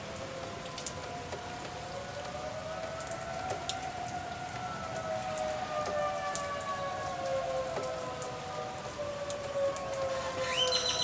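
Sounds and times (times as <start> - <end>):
steady rain: 0.0 - 11.0
warning sirens: 0.0 - 11.0
water drips: 0.0 - 11.0.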